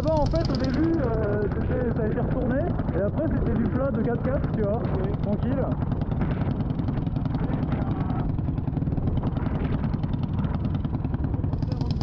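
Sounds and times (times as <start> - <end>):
motorcycle engines idling: 0.0 - 12.0.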